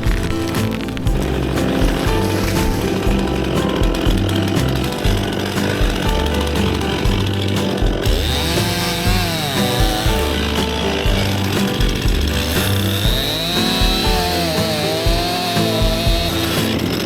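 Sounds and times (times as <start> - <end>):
background music with bass: 0.0 - 17.0
chainsaw running and cutting: 0.0 - 17.0.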